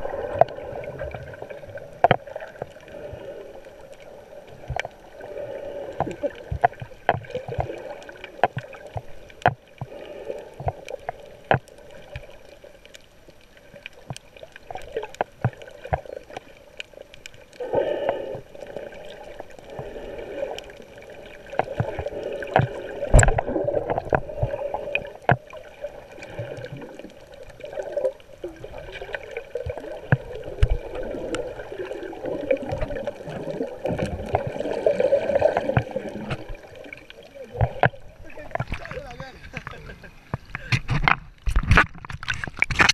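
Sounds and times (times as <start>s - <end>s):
underwater water movement: 0.0s - 42.9s
water rushing: 0.0s - 42.9s.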